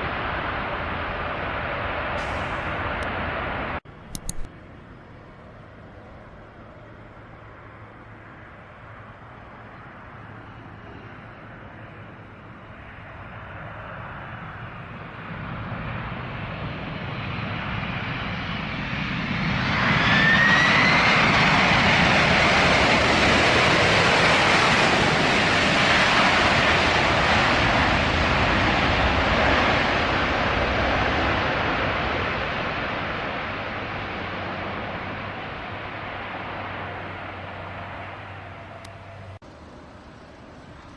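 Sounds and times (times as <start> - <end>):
jet airliner engines passing: 0.0 - 40.9.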